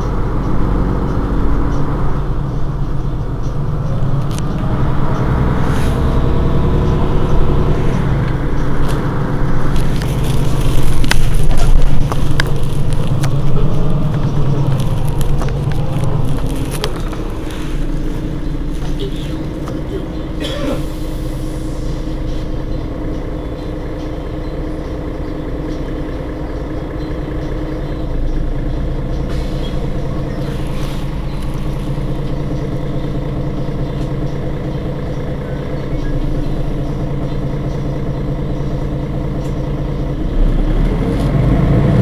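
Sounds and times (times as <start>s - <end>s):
bus engine idling: 0.0s - 42.0s.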